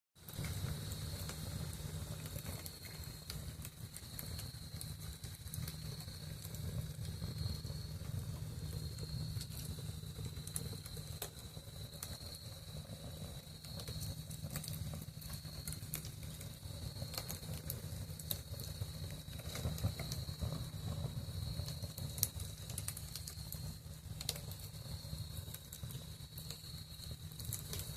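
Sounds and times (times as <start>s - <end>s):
campfire crackling and popping: 0.2s - 27.9s
crickets chirping: 0.3s - 27.9s.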